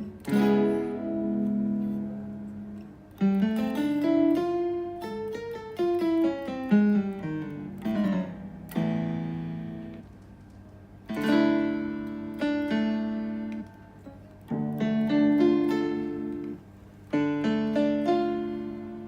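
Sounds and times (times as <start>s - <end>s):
guitar synthesizer notes: 0.0s - 19.0s.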